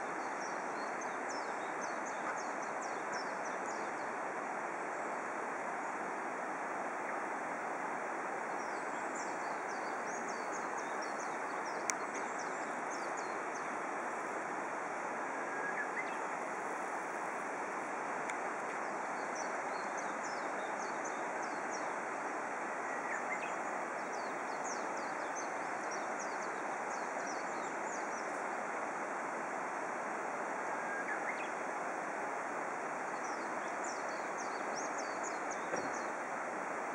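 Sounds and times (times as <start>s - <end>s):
outdoor background noise: 0.0s - 36.9s.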